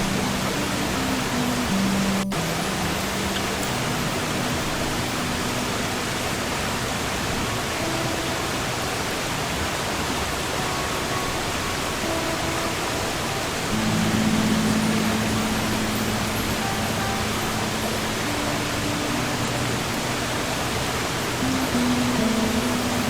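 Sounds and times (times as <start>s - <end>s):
acoustic guitar: 0.0s - 23.0s
sea noise: 0.0s - 23.0s.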